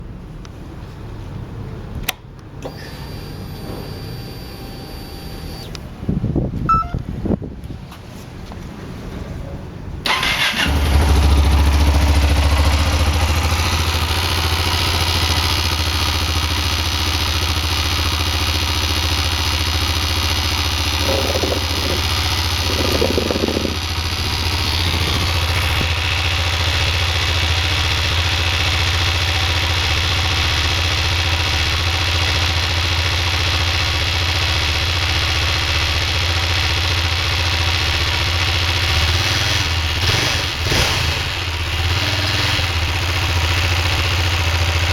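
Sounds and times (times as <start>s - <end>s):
motorcycle engine starting and idling: 1.9s - 7.2s, 9.9s - 44.9s.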